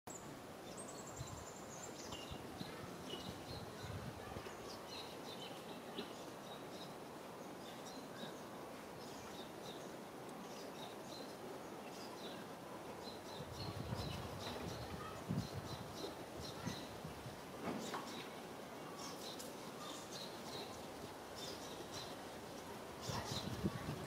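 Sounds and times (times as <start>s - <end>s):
faint hiss: 0.1s - 24.0s
small birds chirping: 0.1s - 24.0s.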